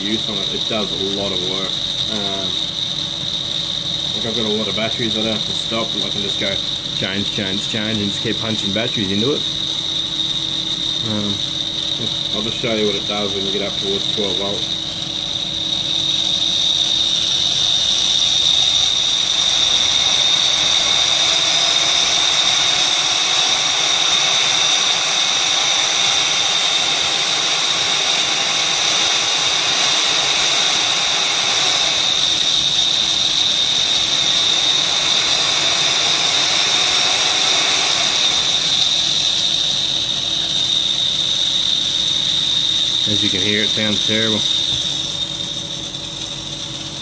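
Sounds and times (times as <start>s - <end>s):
electric motor high whine: 0.0s - 47.0s.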